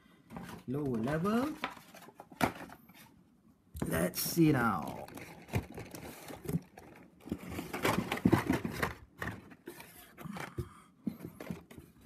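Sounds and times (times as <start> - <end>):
rustling and scraping of packaging: 0.2 - 3.2, 4.0 - 12.0.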